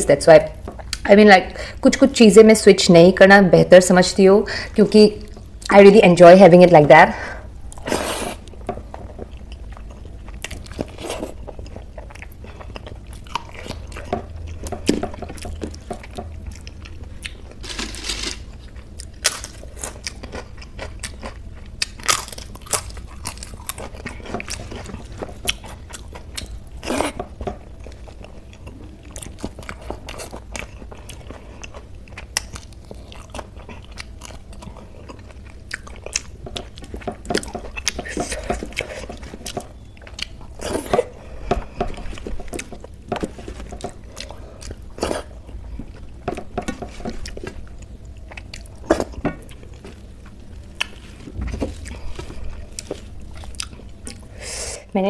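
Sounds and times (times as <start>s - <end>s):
person chewing: 7.5s - 54.4s.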